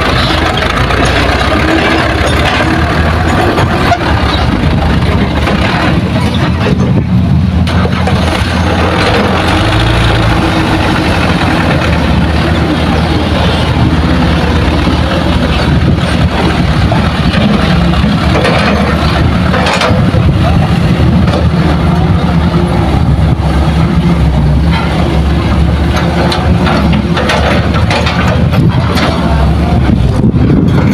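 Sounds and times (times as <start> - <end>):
dump truck diesel engines: 0.0 - 30.9.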